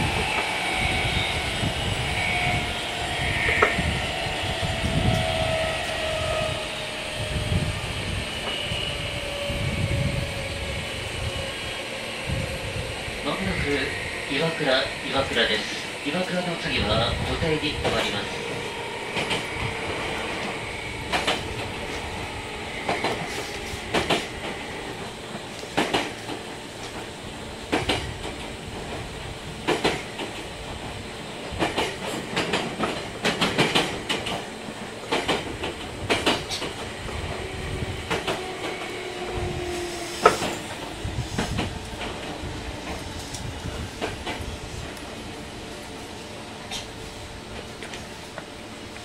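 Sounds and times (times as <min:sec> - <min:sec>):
train rumble: 0:00.0 - 0:49.0.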